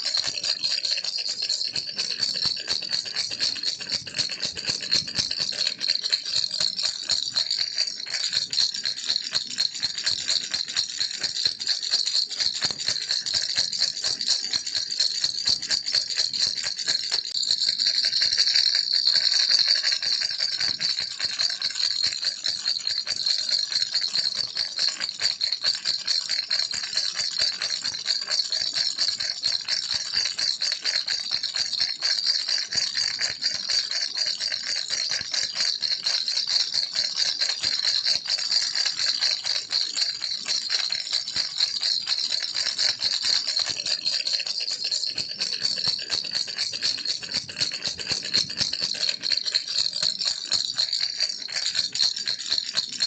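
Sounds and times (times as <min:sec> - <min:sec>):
baby rattle shaken: 0:00.0 - 0:53.0.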